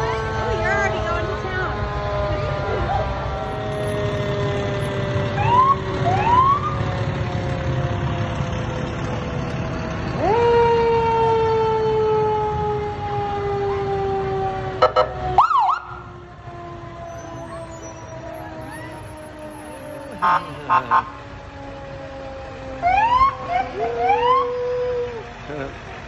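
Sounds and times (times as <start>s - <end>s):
fire engine siren wailing: 0.0s - 26.0s.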